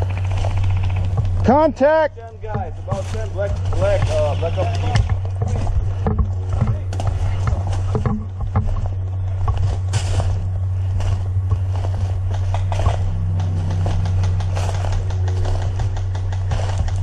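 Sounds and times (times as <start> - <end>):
footsteps crunching dry leaves: 0.0 - 17.0
low steady hum: 0.0 - 17.0.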